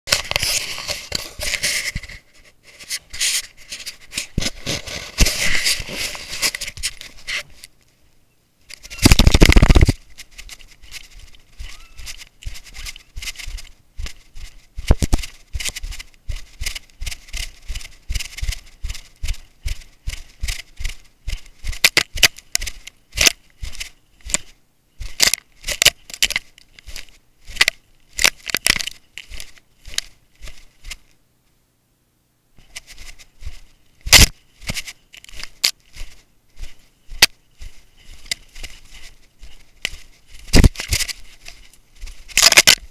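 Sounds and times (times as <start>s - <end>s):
grass brushing against camera: 0.1s - 31.2s, 32.6s - 42.9s.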